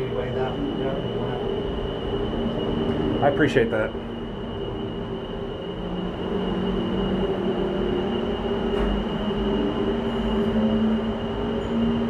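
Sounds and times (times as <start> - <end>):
machinery humming: 0.0 - 12.0
thin high whine: 0.0 - 12.0.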